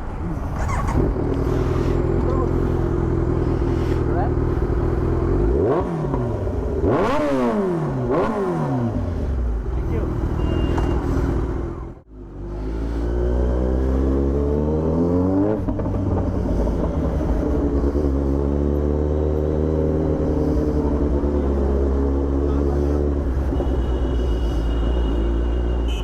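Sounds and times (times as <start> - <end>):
motorcycle engine accelerating: 0.4 - 26.0.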